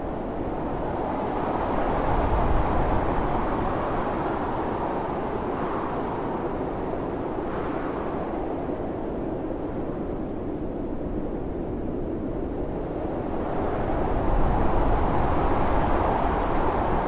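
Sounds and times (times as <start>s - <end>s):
blizzard wind blowing: 0.0s - 17.0s
low rumble of wind gust: 0.0s - 17.0s.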